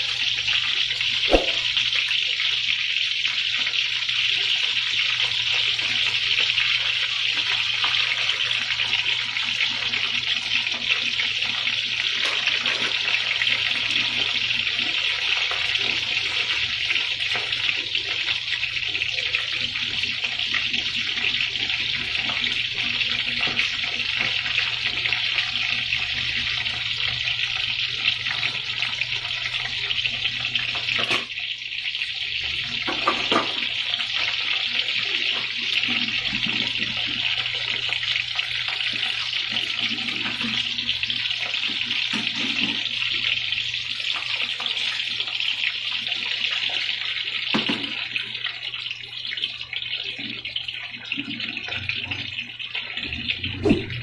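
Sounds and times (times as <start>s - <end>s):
eggs sizzling in oil: 0.0s - 54.0s.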